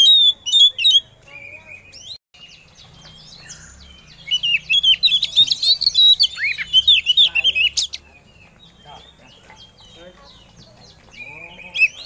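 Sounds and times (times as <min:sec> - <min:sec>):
bird singing chirps and whistles: 0:00.0 - 0:12.0.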